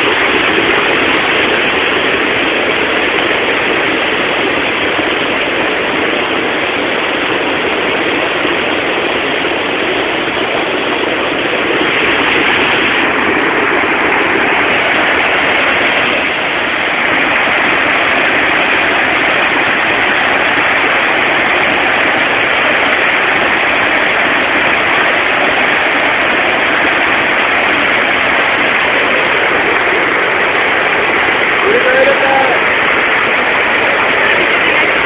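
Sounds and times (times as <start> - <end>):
river water pouring over a weir: 0.0 - 35.0.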